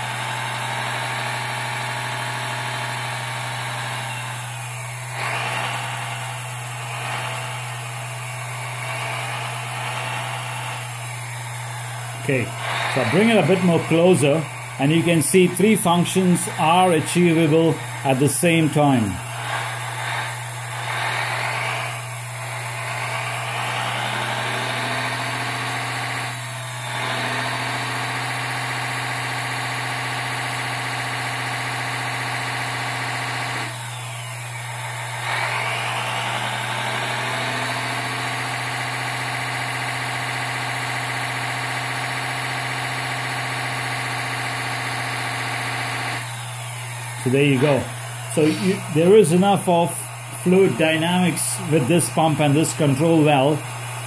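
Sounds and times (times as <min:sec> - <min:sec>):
hydraulic pump whining: 0:00.0 - 0:54.0.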